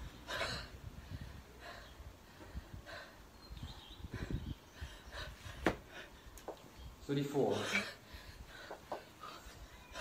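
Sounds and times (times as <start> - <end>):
woman breathing hard: 0.0 - 6.5, 7.6 - 10.0.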